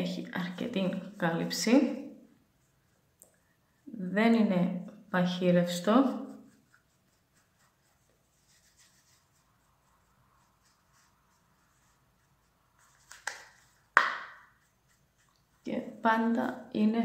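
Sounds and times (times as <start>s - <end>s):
make-up brush scratching on skin: 0.1s - 4.6s, 5.2s - 16.4s.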